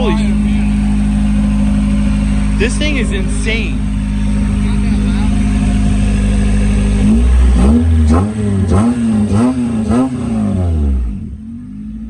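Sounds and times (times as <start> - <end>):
exhaust cracks: 0.0 - 12.0
loud car engine revving: 0.0 - 12.0.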